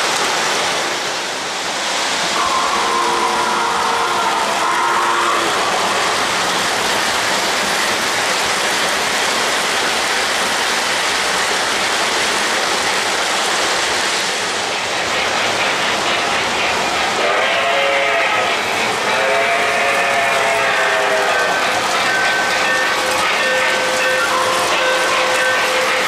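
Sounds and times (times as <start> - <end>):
model train wheels rolling: 2.8 - 26.0.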